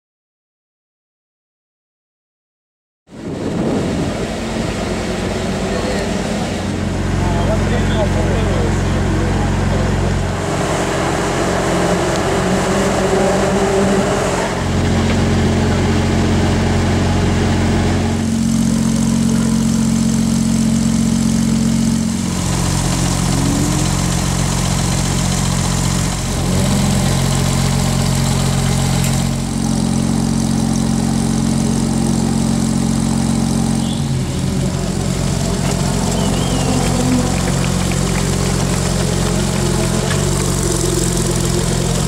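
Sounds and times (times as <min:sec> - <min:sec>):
car engine idling: 0:03.2 - 0:42.0.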